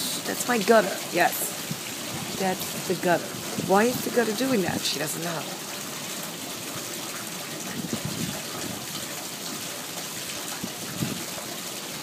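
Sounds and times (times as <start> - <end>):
water gushing through gutter drain: 0.0 - 12.0.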